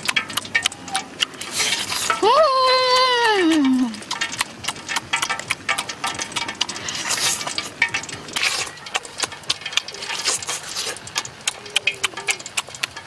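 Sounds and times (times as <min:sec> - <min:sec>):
mouth smacking and chewing: 0:00.0 - 0:13.0
sucking smacks: 0:00.0 - 0:13.0.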